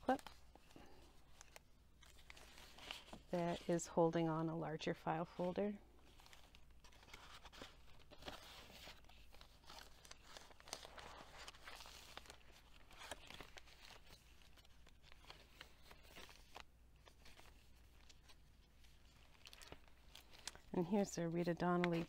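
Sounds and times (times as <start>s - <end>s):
paper pages rustling: 0.0s - 3.8s, 5.4s - 22.0s.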